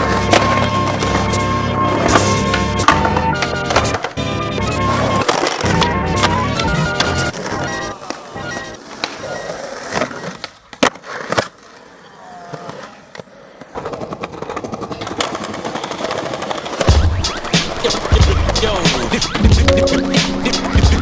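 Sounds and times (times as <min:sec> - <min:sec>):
skateboard clacks: 0:00.0 - 0:21.0
skateboard wheels rolling: 0:00.0 - 0:21.0.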